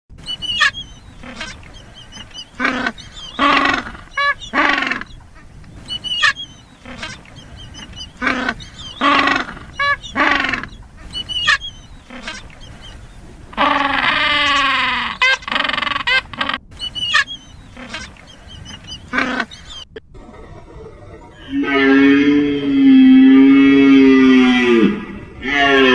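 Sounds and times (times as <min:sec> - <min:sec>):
penguin braying: 0:00.5 - 0:12.6, 0:13.5 - 0:24.7.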